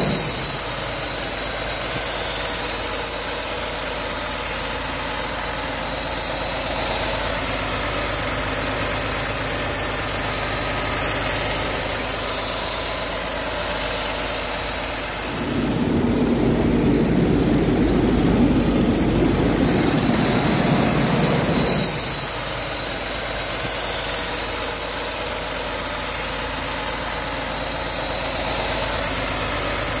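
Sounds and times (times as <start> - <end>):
high-pitched engine whine: 0.0 - 30.0.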